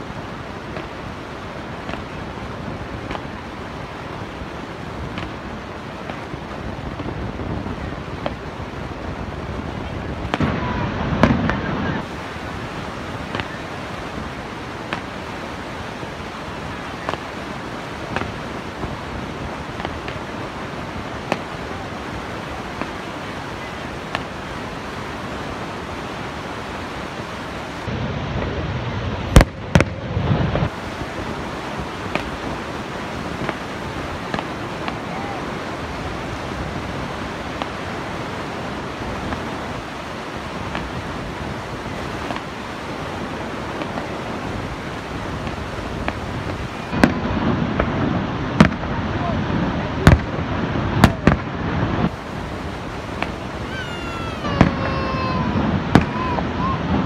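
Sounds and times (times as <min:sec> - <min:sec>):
distant fireworks bursting: 0:00.0 - 0:57.0
waterfall roaring: 0:00.0 - 0:57.0.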